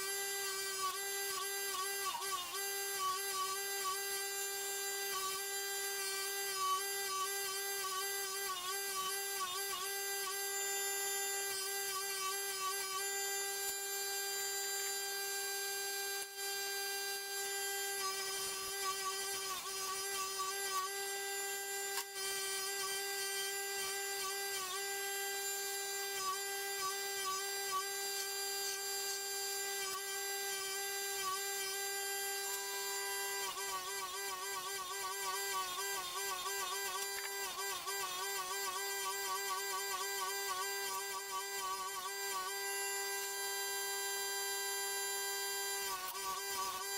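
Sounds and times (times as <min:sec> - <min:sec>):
electric power tool whine: 0:00.0 - 0:46.9.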